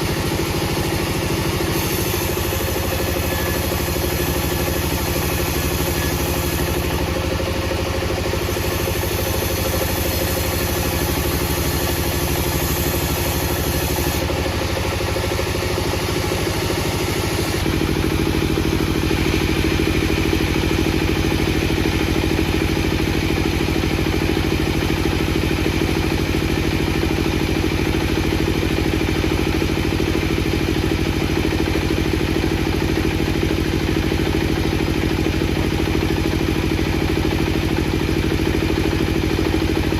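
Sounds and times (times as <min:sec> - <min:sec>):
wood-processing machinery droning: 0:00.0 - 0:39.9.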